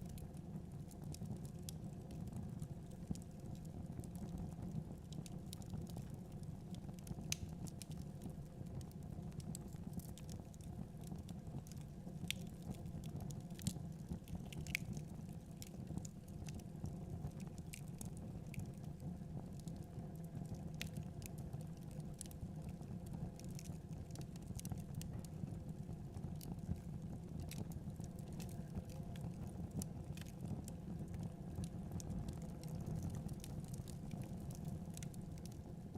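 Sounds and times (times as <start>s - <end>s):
low fire rumble: 0.0s - 35.9s
wood fire crackling: 0.0s - 35.9s.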